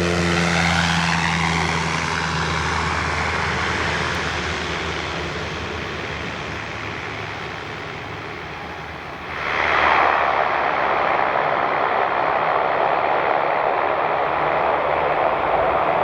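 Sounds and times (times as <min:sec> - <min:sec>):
turboprop engine and propeller: 0:00.0 - 0:16.0.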